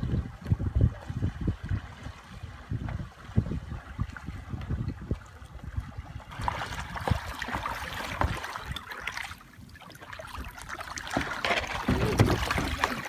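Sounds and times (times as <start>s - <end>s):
paddle splashing in water: 0.2s - 13.0s.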